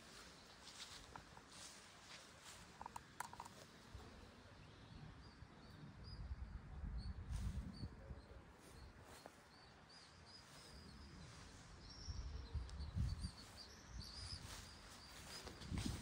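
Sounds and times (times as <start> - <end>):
faint outdoor background noise: 0.0 - 16.0
small birds chirping: 0.0 - 16.0.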